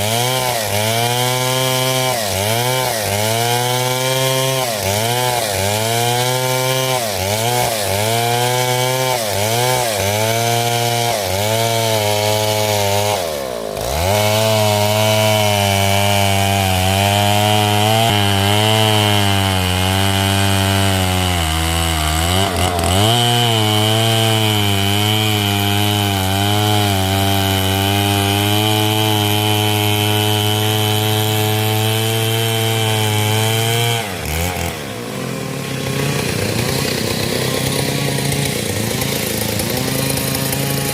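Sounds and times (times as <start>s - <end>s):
chainsaw cutting hard wood: 0.0s - 40.9s.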